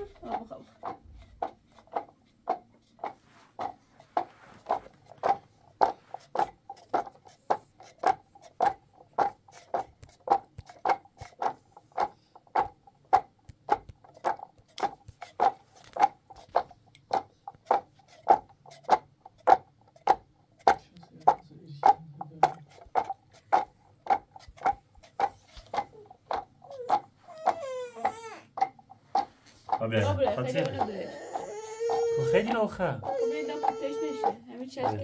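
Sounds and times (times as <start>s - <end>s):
evenly spaced knocks: 0.1s - 35.0s.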